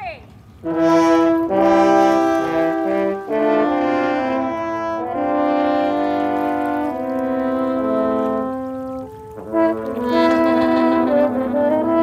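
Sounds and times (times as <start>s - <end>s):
french horns playing chords: 0.6s - 12.0s.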